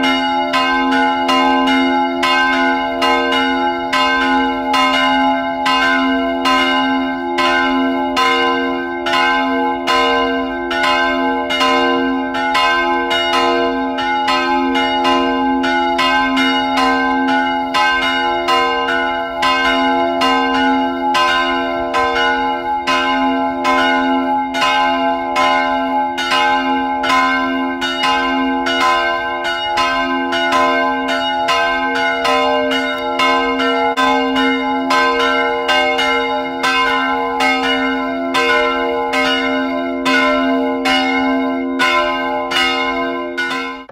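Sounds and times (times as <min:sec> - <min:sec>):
church bell ringing: 0:00.0 - 0:43.9.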